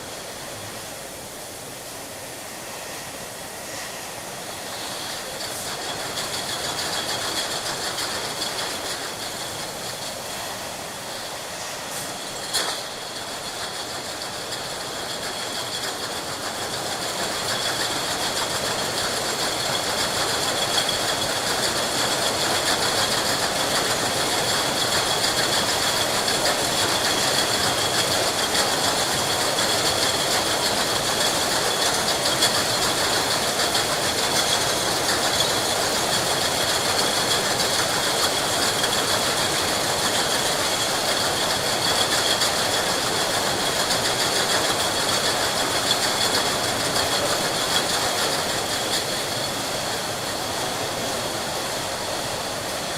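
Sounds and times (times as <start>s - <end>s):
factory machinery running: 0.0s - 52.9s.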